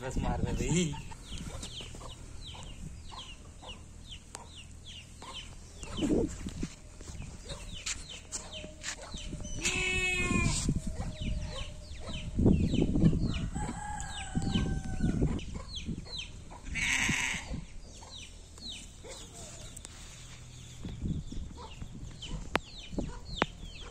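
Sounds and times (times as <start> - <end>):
chickens clucking and chirping: 0.0 - 16.8, 17.4 - 23.9.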